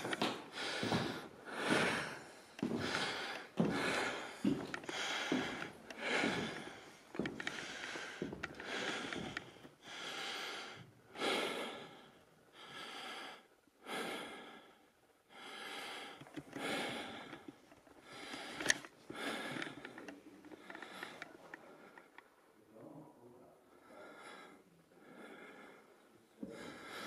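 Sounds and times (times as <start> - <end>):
person breathing close: 0.0 - 22.4, 23.7 - 27.0.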